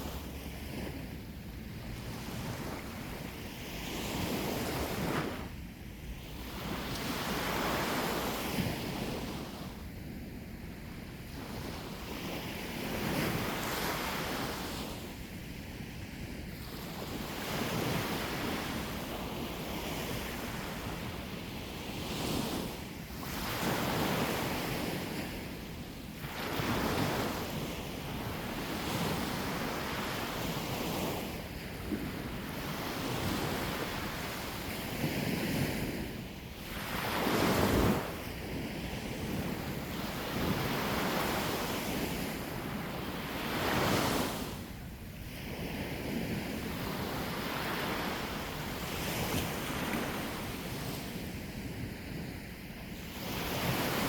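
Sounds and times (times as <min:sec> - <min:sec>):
sea waves breaking on shore: 0:00.0 - 0:09.9, 0:11.1 - 0:54.0.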